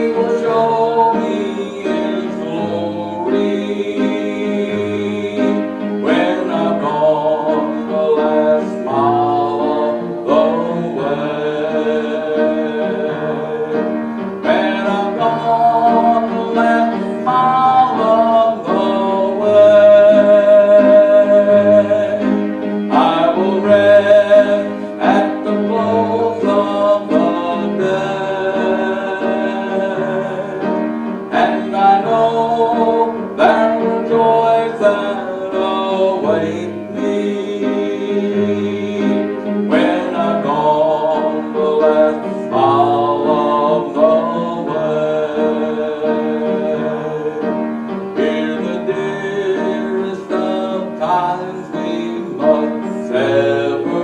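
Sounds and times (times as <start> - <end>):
hymn on piano and keyboard: 0.0 - 54.0.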